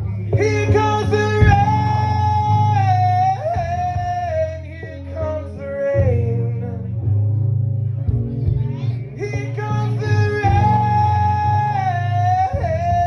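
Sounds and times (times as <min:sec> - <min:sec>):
low bass loop: 0:00.0 - 0:13.0.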